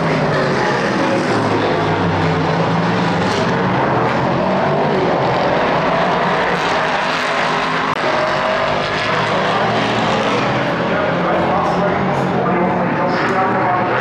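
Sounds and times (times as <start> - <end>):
race car engines at speed: 0.0 - 14.0.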